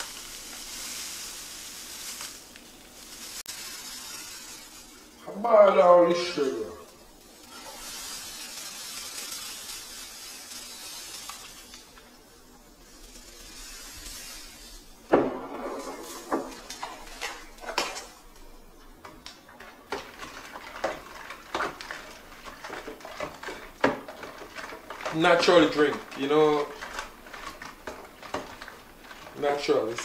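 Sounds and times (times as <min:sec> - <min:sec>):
sugar pouring hiss: 0:00.0 - 0:30.0.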